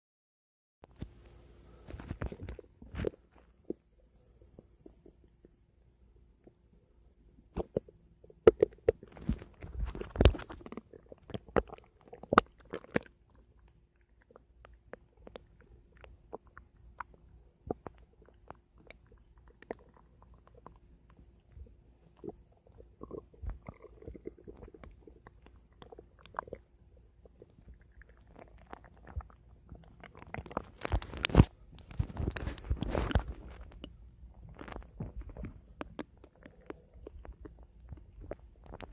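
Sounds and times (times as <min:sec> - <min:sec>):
stomach gurgling: 0:01.8 - 0:05.6, 0:07.4 - 0:38.9.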